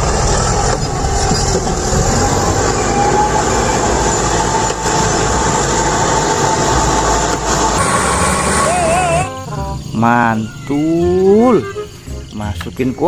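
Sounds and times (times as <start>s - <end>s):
heavy vehicle moving: 0.0s - 12.4s.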